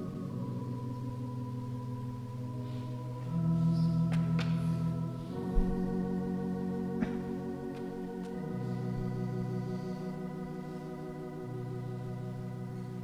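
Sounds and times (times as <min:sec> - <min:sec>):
soft organ music: 0:00.0 - 0:13.0.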